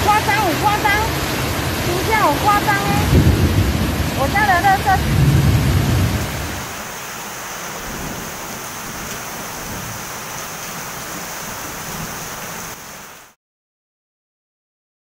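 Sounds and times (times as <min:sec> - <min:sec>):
heavy rain pouring on street: 0:00.0 - 0:13.4.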